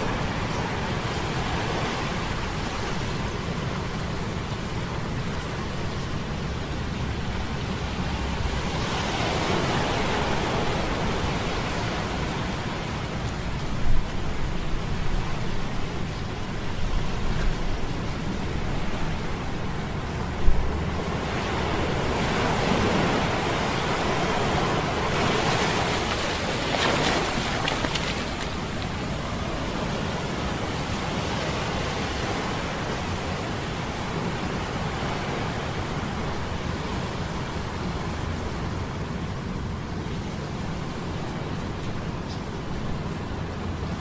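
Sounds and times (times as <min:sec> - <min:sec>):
surf and wind rushing: 0:00.0 - 0:44.0.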